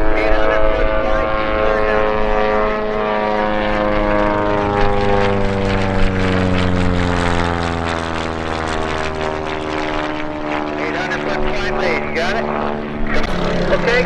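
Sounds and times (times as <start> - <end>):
propeller plane flying past: 0.0 - 14.0.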